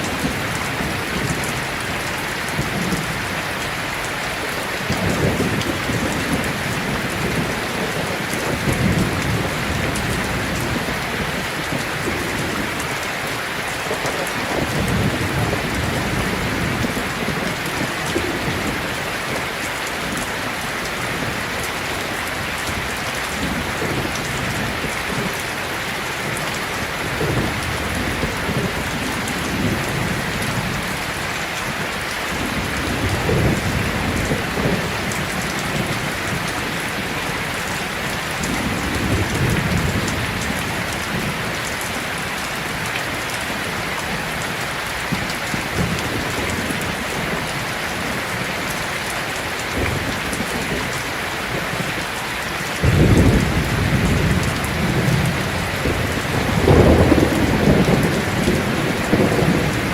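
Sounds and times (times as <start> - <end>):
thunder rumbling: 0.0 - 31.3, 31.9 - 48.9, 52.8 - 59.9
heavy rain falling: 0.0 - 59.9.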